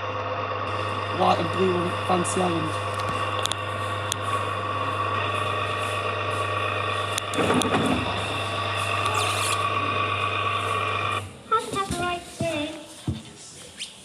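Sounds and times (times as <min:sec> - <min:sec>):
electric motor humming and whining: 0:00.0 - 0:11.4.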